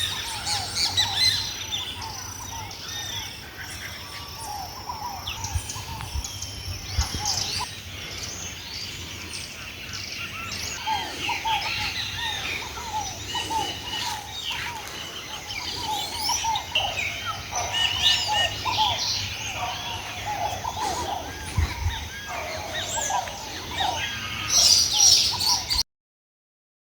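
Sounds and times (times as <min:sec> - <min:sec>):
chorus of birds chirping: 0:00.0 - 0:25.8
steady low hum: 0:00.1 - 0:24.5.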